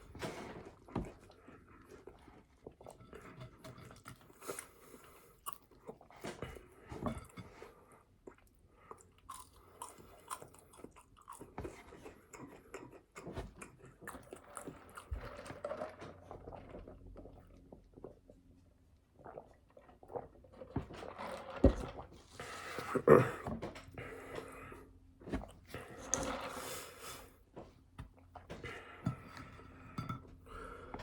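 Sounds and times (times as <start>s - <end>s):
chewing and crunching food: 0.0s - 31.0s.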